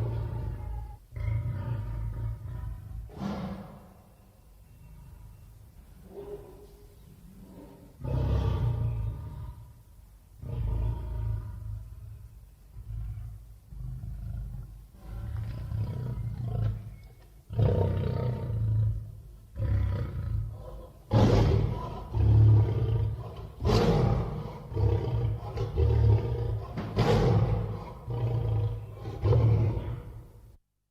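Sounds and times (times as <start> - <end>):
deep big-cat roars: 0.0 - 4.0, 7.4 - 9.7, 10.4 - 12.1, 12.7 - 30.4.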